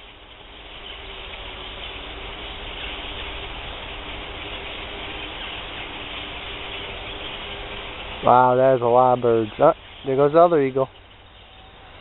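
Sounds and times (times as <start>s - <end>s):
flock of small birds chattering: 0.0s - 12.0s.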